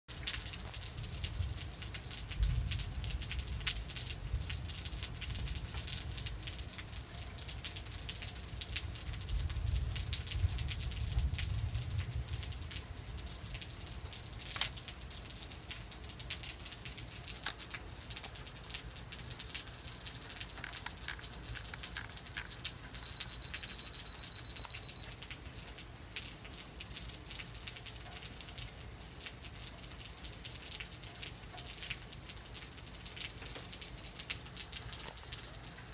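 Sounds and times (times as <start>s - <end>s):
close drips and splashes: 0.1s - 35.9s
steady rain falling: 0.1s - 35.9s.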